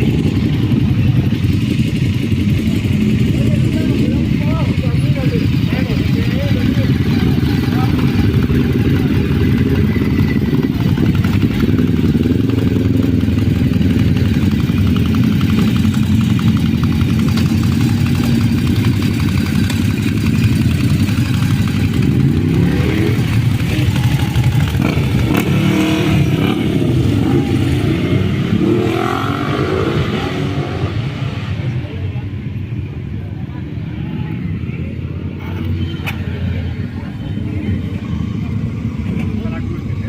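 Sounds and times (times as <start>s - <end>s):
motorcycle engine revving: 0.0s - 32.5s.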